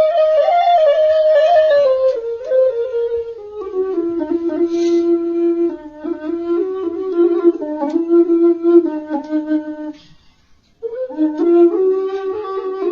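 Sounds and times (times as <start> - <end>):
flute melody: 0.0 - 10.1, 10.8 - 12.9.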